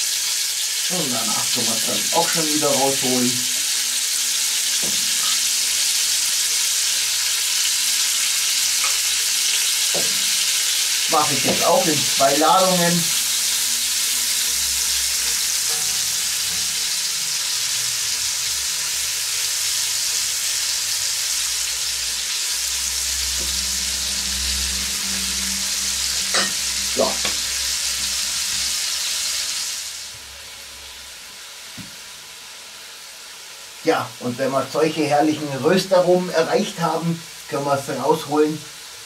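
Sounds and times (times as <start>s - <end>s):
meat sizzling in hot oil: 0.0s - 39.0s.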